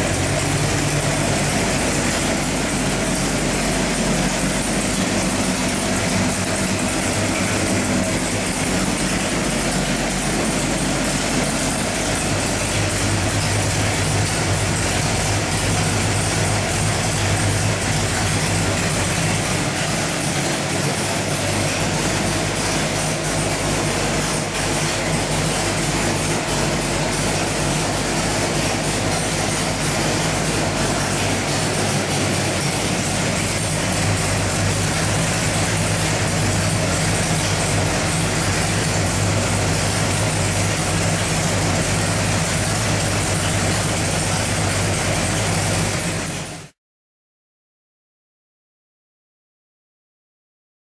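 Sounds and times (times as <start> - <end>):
engine running steadily: 0.0 - 46.8.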